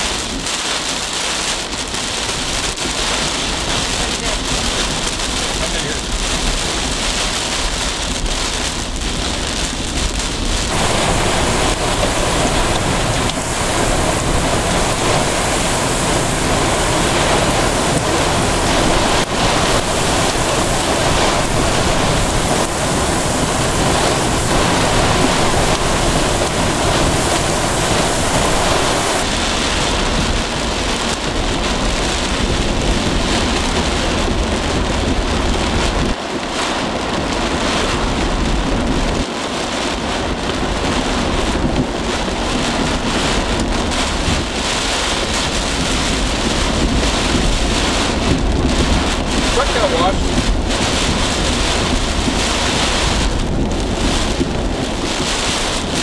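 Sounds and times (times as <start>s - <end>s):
heavy driving rain: 0.0s - 56.0s
strong wind: 0.0s - 56.0s
wind buffeting microphone: 0.0s - 56.0s.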